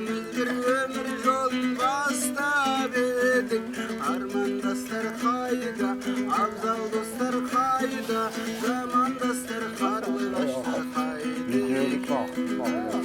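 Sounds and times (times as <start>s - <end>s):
plucked string instrument melody: 0.0s - 13.0s.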